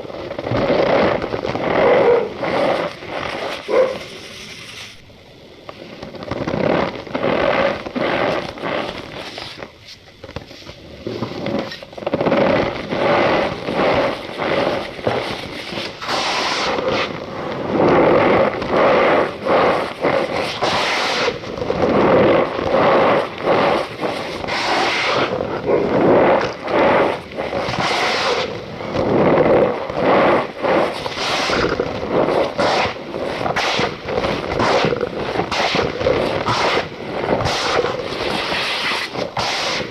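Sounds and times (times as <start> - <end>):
powder squeaking and crunching: 0.0 - 39.9.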